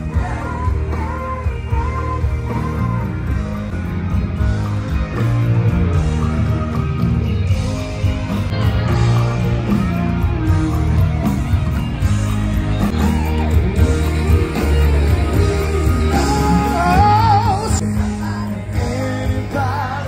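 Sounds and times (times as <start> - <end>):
electric guitar: 0.0 - 20.0
live rock band playing: 0.0 - 20.0
sustained bass notes: 0.0 - 20.0.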